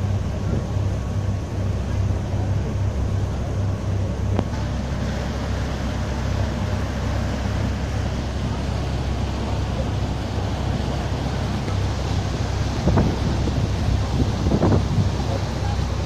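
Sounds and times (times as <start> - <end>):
boat engine humming: 0.0 - 16.0
water rushing in wake: 0.0 - 16.0.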